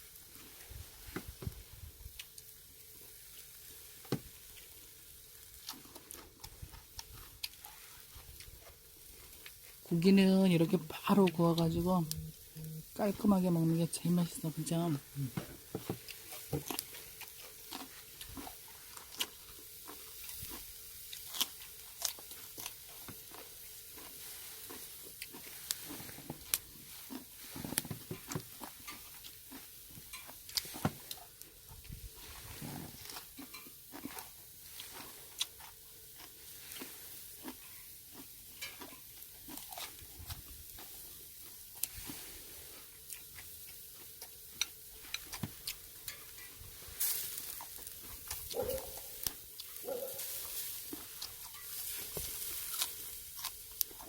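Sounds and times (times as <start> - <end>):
meat sizzling on a grill: 2.2 - 5.6, 6.8 - 14.9, 15.7 - 39.3, 40.0 - 53.9.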